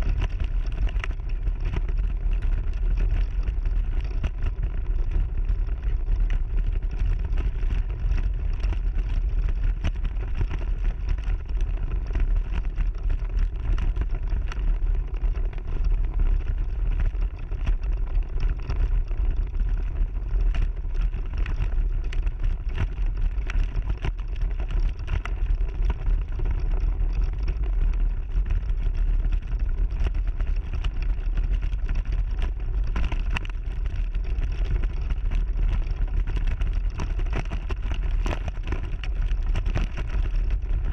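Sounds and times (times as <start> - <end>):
clicks and rattles from bumps: 0.0 - 40.9
mobility scooter rumbling on gravel: 0.0 - 40.9.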